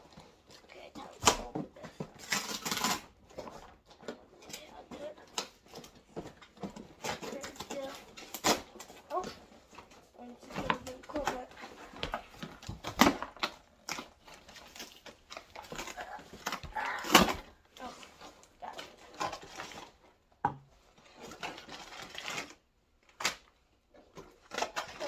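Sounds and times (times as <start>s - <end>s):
packaging rustling and scraping: 0.0s - 25.0s.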